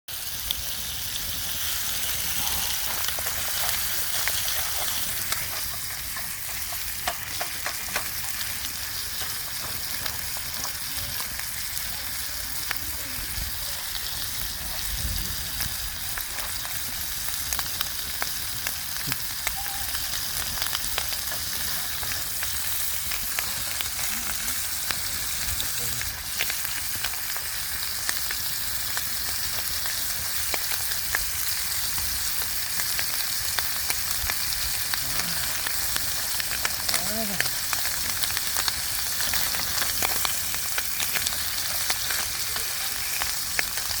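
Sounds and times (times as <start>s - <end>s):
meat sizzling on a grill: 0.1s - 44.0s.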